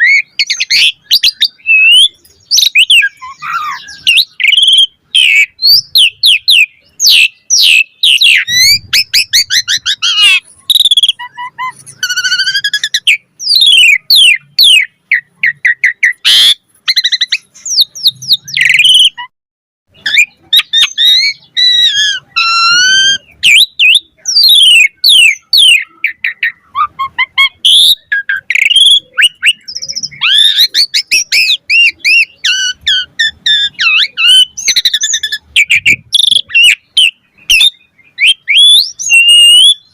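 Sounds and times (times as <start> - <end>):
starling singing: 0.0 - 19.3, 19.9 - 39.9.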